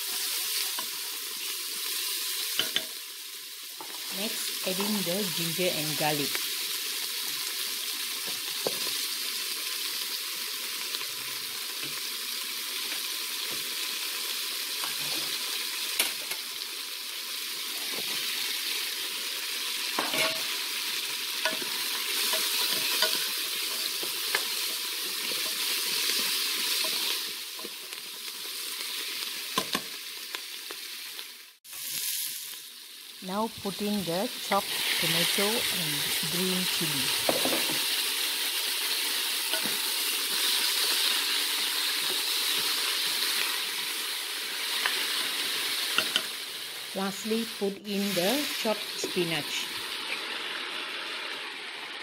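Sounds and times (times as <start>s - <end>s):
onions sizzling in oil: 0.0s - 52.0s.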